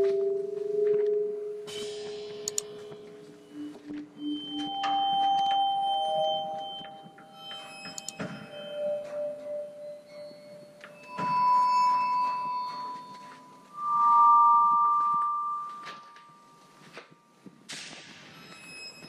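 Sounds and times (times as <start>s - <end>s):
ambient electronic music: 0.0s - 19.0s.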